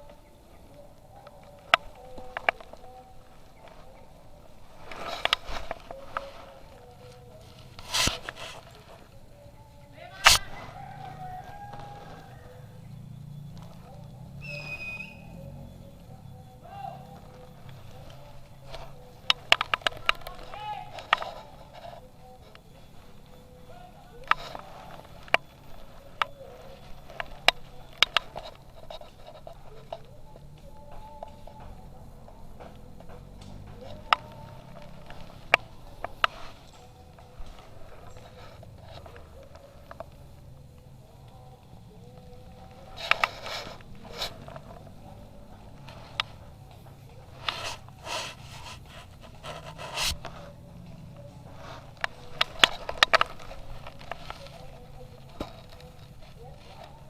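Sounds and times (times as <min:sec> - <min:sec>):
gear rustling: 0:00.0 - 0:57.0.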